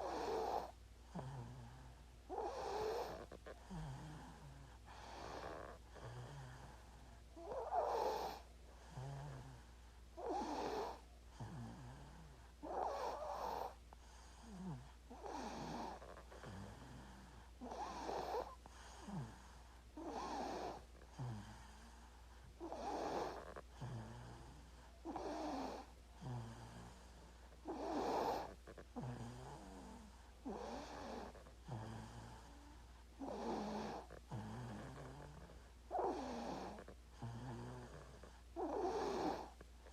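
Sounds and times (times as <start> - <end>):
baby snoring: 0.0 - 39.9.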